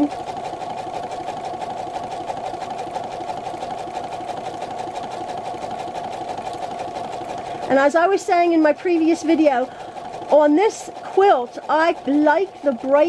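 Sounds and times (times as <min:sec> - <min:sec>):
sewing machine running: 0:00.0 - 0:13.0.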